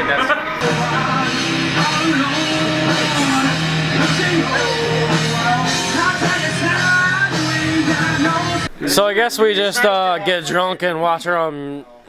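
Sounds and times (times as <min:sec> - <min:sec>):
rock song with singing: 0:00.0 - 0:10.3.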